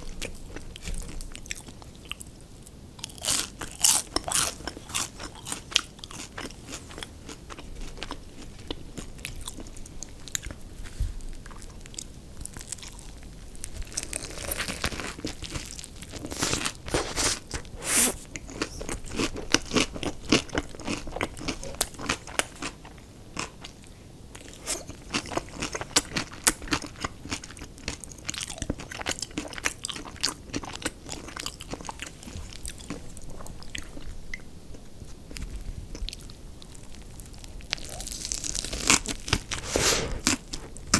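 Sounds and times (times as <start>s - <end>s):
person chewing crispy food: 0.0s - 2.3s, 3.0s - 40.9s.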